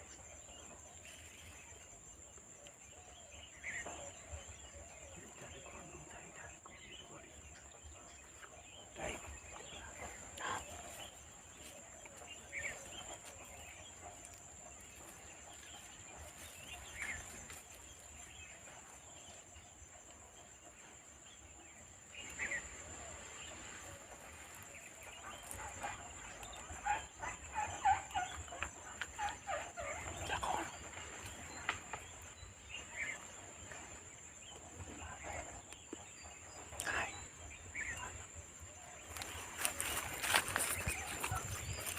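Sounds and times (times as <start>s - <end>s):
bird calls: 0.0s - 41.9s.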